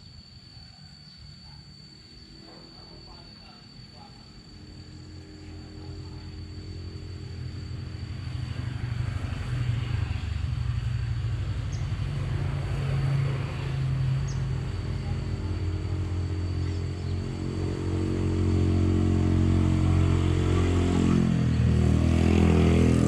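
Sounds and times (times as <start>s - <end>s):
vehicle engine running: 4.4s - 23.0s.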